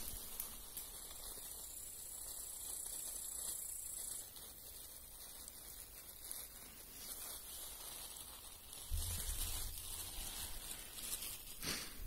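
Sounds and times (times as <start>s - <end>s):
rustling of undergrowth: 0.0s - 12.0s.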